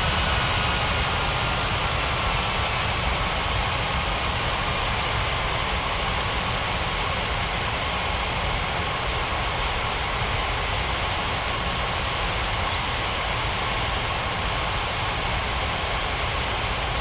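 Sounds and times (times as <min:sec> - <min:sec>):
jet engines running: 0:00.0 - 0:15.5.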